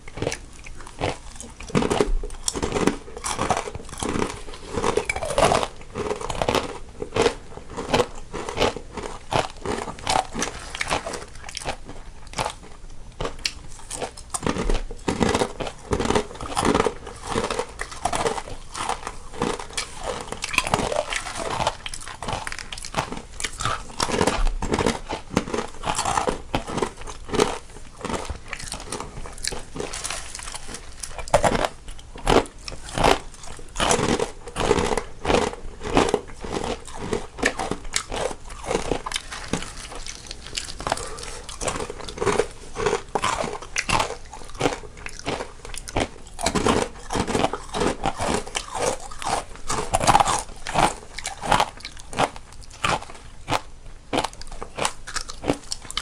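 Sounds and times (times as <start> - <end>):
people chewing crunchy snacks: 0.0 - 56.0.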